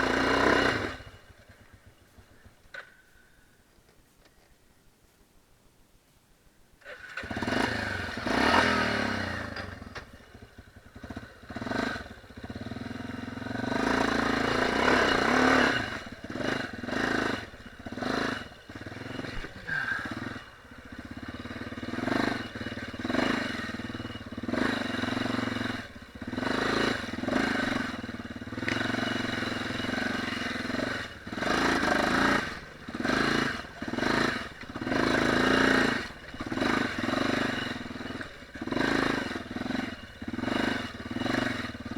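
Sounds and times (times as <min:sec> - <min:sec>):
dirt bike engine revving: 0:00.0 - 0:01.3, 0:06.9 - 0:41.9.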